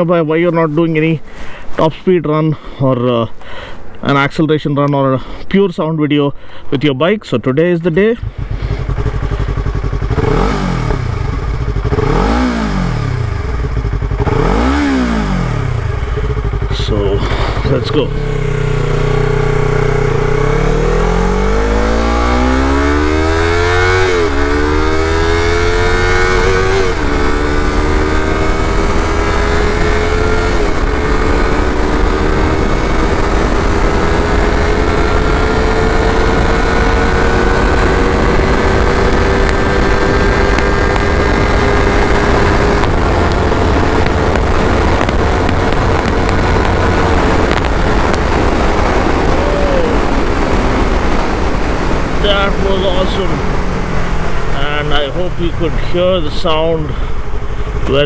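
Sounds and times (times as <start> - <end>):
wind noise: 7.8 - 58.0
motorcycle engine revving: 8.2 - 58.0.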